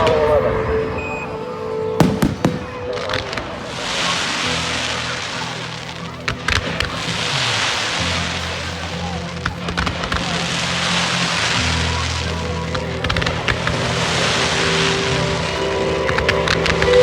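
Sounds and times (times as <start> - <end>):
fireworks bangs: 2.0 - 17.0
fireworks hissing and crackling: 2.0 - 17.0.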